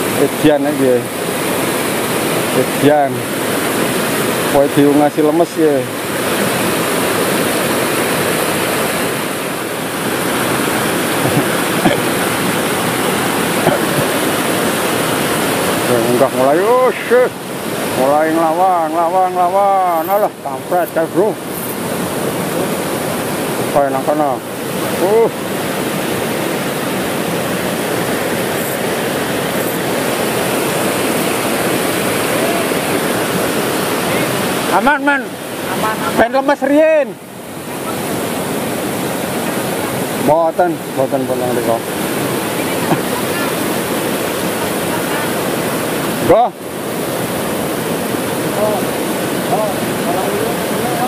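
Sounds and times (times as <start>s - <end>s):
river water rushing over boulders: 0.0s - 51.0s.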